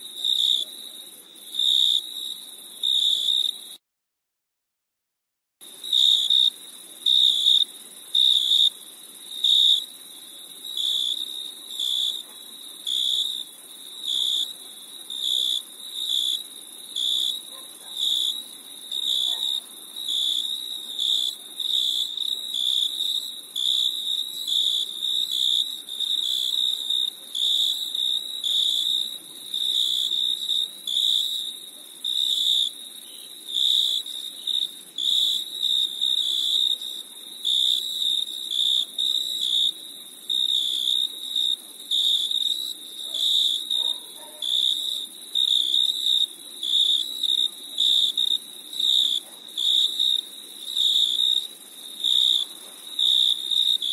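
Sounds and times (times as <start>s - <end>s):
cricket chirping: 0.1s - 3.8s, 5.7s - 53.9s.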